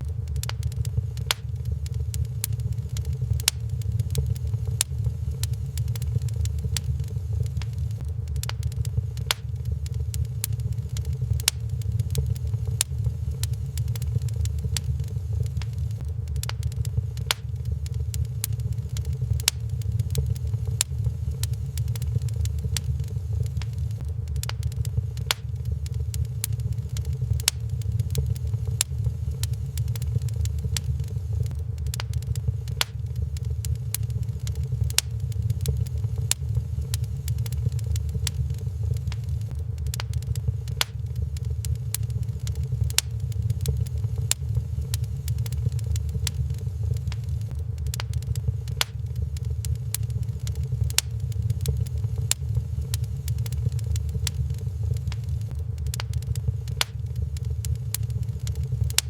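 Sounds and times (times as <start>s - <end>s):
low rumble: 0.0s - 59.0s
wood fire crackling and popping: 0.0s - 59.0s.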